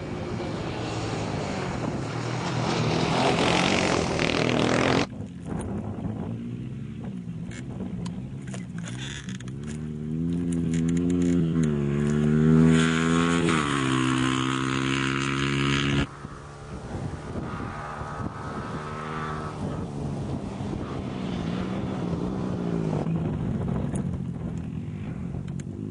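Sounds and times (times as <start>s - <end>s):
faint engine: 0.0s - 25.9s.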